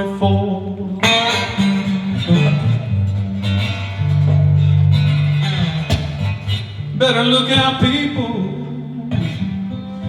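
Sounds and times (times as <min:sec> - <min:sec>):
blues guitar playing: 0:00.2 - 0:10.0.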